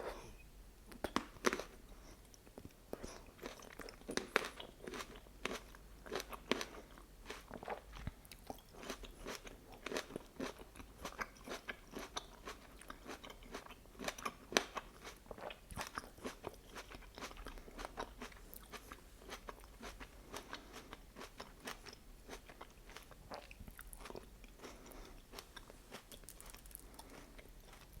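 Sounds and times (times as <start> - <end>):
chewing crunchy food: 0.9 - 28.0.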